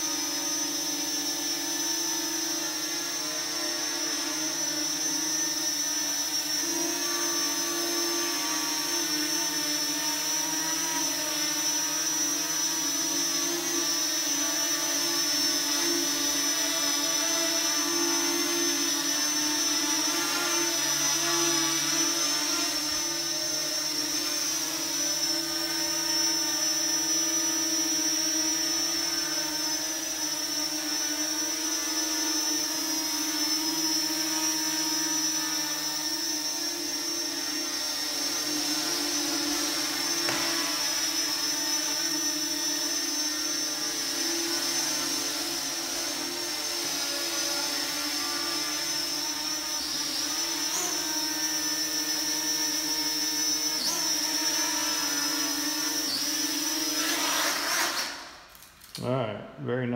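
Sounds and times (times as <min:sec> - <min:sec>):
drone propellers buzzing: 0:00.0 - 0:57.0.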